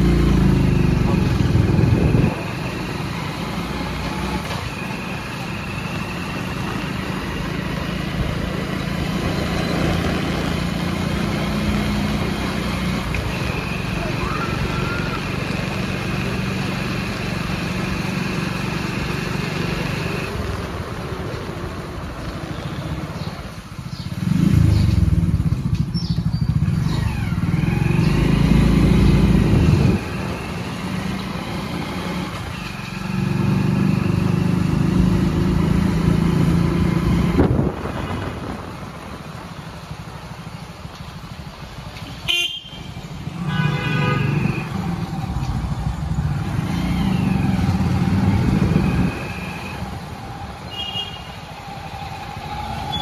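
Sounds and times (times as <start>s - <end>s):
vehicle engines running: 0.0s - 53.0s
vehicles passing close by: 0.0s - 53.0s.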